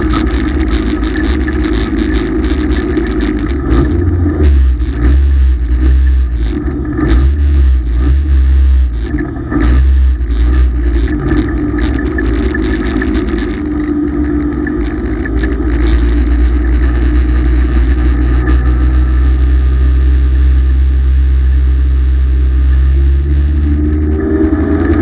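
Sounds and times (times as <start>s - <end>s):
race car engine pulling hard: 0.0s - 25.0s.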